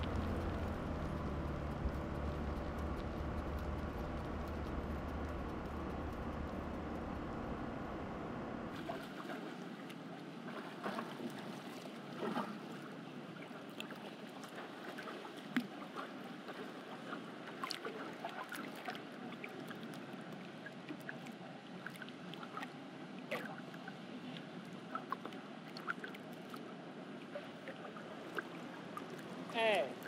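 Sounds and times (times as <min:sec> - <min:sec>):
pool water wash: 0:00.0 - 0:30.0
small splashes and ticks: 0:00.0 - 0:30.0.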